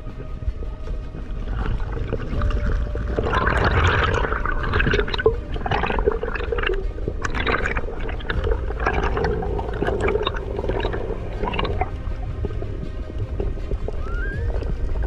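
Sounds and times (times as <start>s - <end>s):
low underwater rumble: 0.0s - 15.0s
water swishing: 0.0s - 15.0s.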